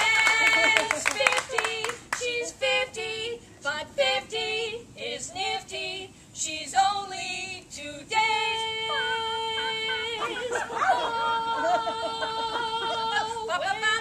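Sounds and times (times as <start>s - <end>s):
women singing: 0.0s - 14.0s.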